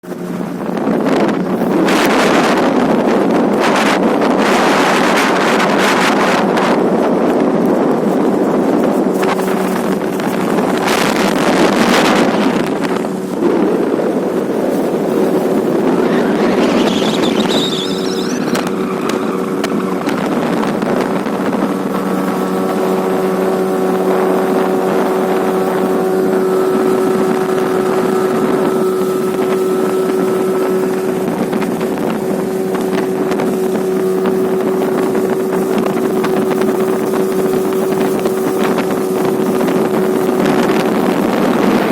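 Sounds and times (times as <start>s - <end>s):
outboard motor running: 0.0s - 41.9s
wind buffeting microphone: 0.0s - 41.9s.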